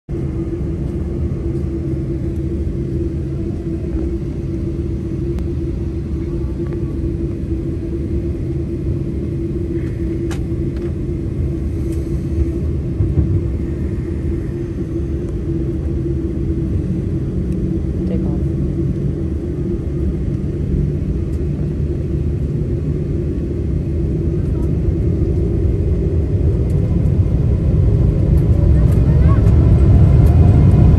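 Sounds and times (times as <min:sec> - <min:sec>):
constant hum: 0:00.1 - 0:30.9
plane engines low rumble: 0:00.1 - 0:30.9.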